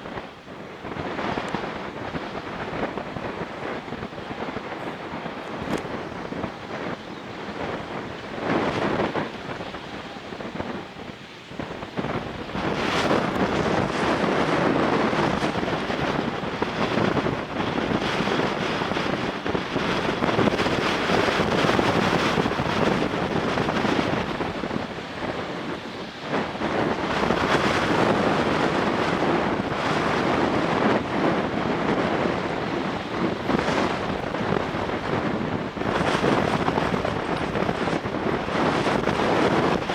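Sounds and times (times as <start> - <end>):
gusty wind buffeting microphone: 0.0 - 39.9.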